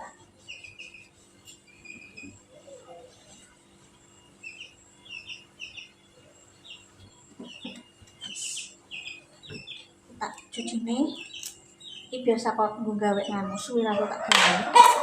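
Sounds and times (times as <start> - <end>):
small birds chirping: 0.0 - 3.5, 4.1 - 14.3.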